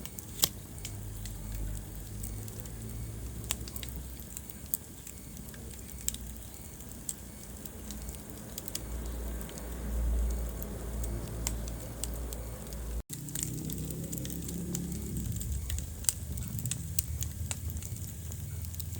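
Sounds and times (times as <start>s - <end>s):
low rumble of burning: 0.0s - 18.9s
wood fire crackling: 0.0s - 18.9s.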